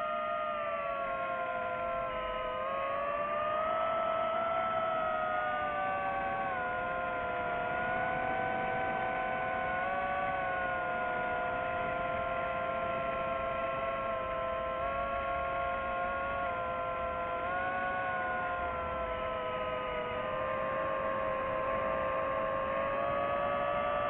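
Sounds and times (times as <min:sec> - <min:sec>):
quadcopter motors humming: 0:01.5 - 0:24.0.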